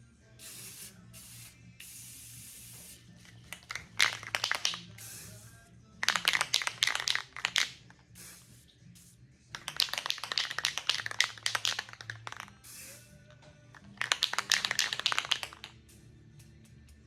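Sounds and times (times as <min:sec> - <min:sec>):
spray can ball rattling: 0:00.4 - 0:13.1, 0:13.7 - 0:15.8
spray can hissing: 0:00.4 - 0:13.1, 0:13.8 - 0:15.8.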